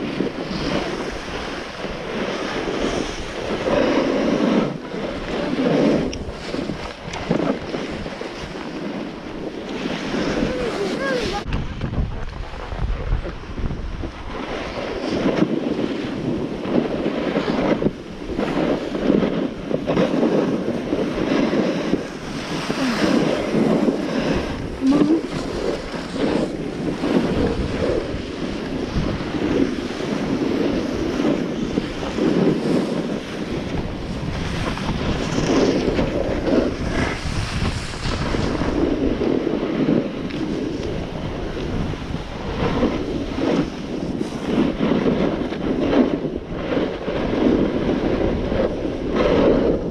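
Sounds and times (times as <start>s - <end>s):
skis scraping over snow: 0.0s - 49.9s
wind buffeting microphone: 0.0s - 49.9s.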